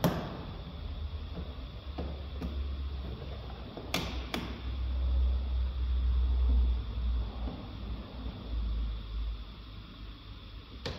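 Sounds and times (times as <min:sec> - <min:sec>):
low steady rumble: 0:00.0 - 0:10.9.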